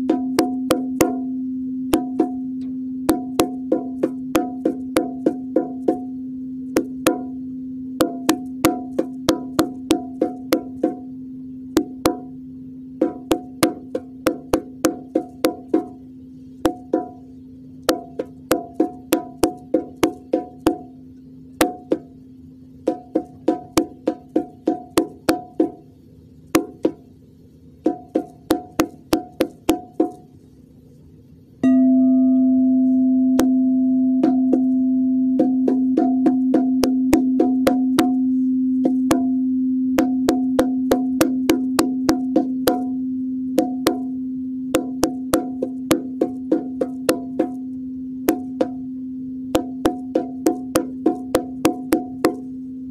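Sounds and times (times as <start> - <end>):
bongo drum strikes: 0.0 - 27.1, 27.8 - 30.4, 31.6 - 52.9
singing bowl humming: 0.0 - 30.4, 31.6 - 52.9.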